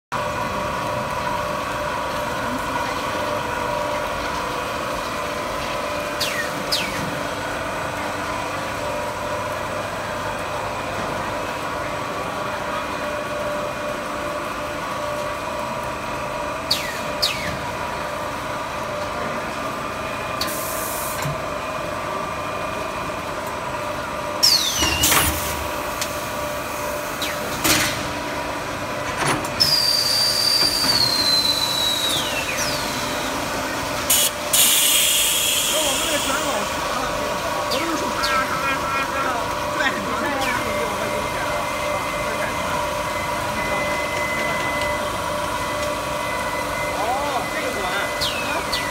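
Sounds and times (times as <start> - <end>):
machine hum with held tones: 0.2 - 48.9.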